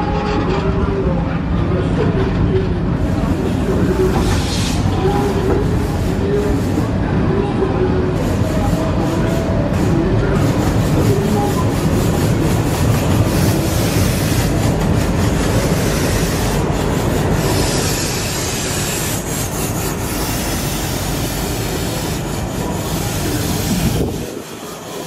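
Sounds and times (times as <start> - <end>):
steel wheels on rails: 3.0 - 25.0.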